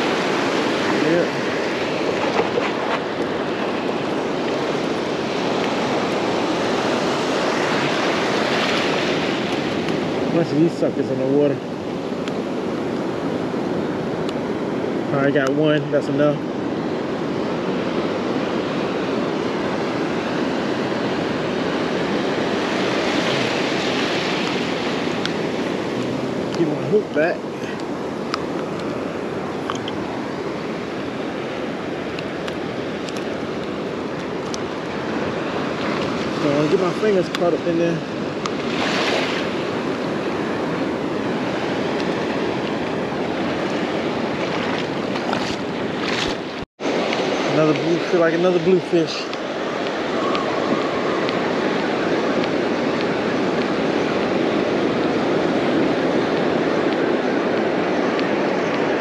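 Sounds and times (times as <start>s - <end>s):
ocean surf washing over sand: 0.0s - 59.0s
waves breaking on beach: 0.0s - 59.0s
wind on microphone: 0.0s - 59.0s.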